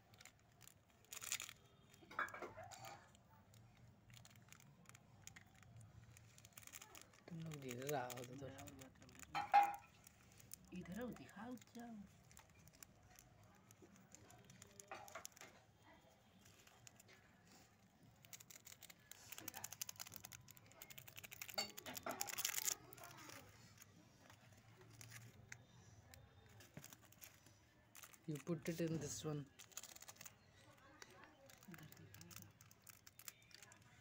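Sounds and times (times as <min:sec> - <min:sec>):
plastic sachets crinkling: 0:00.0 - 0:34.0.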